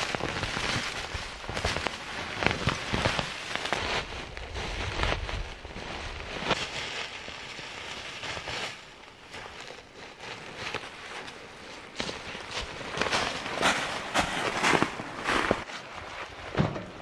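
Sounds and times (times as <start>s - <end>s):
dry leaves rustling and crackling: 0.0s - 16.3s.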